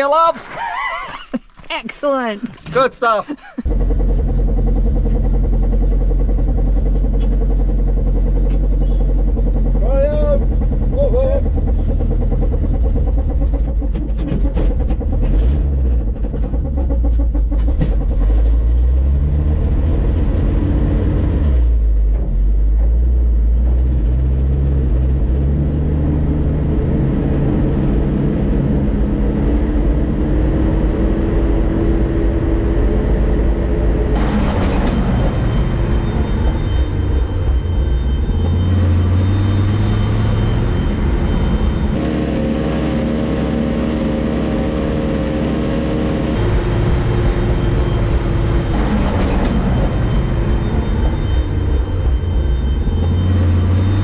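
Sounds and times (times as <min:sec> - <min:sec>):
heavy vehicle engine revving: 0:03.6 - 0:54.0.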